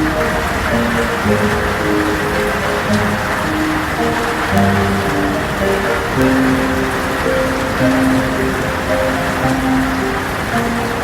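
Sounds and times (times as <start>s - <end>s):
heavy rain hiss: 0.0s - 11.0s
slow music of held notes: 0.0s - 11.0s.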